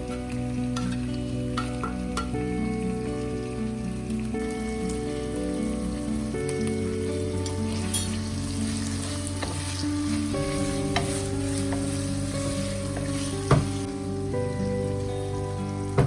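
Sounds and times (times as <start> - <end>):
background music: 0.0 - 16.0
food sizzling in a frying pan: 0.0 - 16.0.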